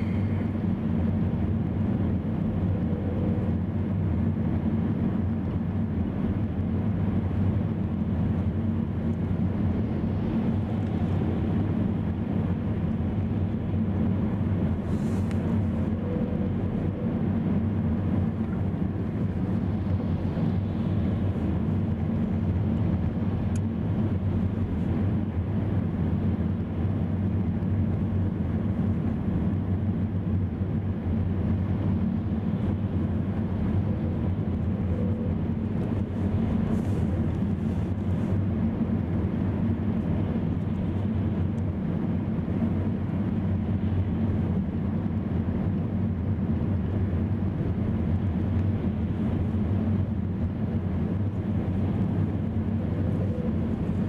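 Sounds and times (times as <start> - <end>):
tyre and engine drone: 0.0 - 54.0.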